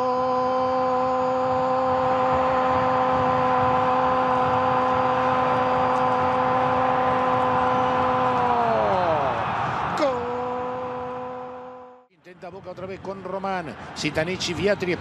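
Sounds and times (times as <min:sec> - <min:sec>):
stadium crowd noise: 0:00.1 - 0:15.0.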